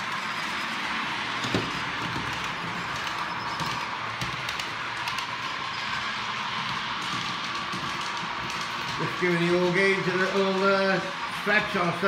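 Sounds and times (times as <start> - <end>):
model train motors whirring: 0.0 - 12.0.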